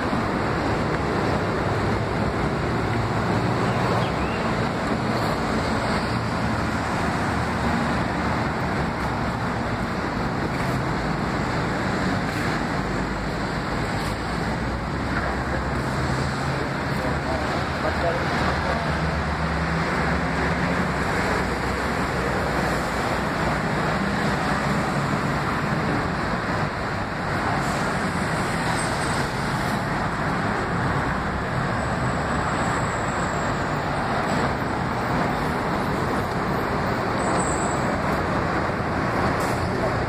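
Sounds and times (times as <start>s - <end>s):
city street traffic: 0.0s - 40.0s.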